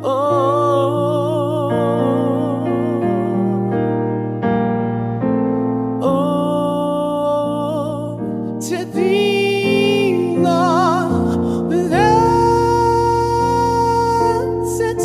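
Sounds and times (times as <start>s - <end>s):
man singing with vibrato: 0.0s - 3.9s, 6.0s - 15.0s
soft piano chords: 0.0s - 15.0s.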